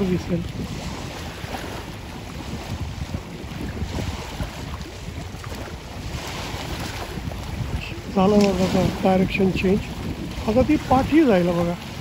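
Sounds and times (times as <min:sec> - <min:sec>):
small waves splashing: 0:00.0 - 0:12.0
wind buffeting the microphone: 0:00.0 - 0:12.0.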